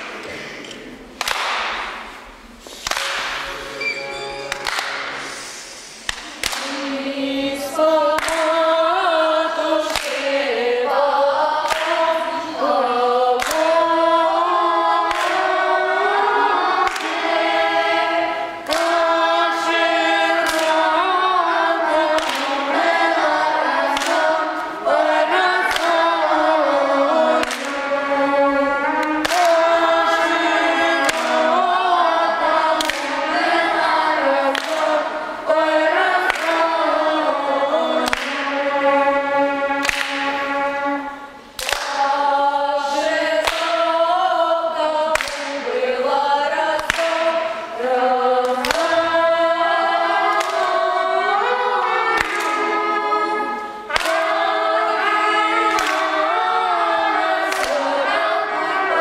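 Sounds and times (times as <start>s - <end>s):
children singing in chorus: 3.0s - 59.0s.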